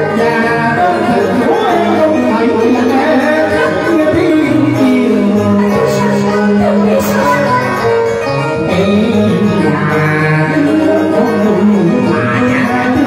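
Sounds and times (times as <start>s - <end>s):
amplified live band: 0.0s - 13.0s
man and woman singing duet: 0.0s - 13.0s.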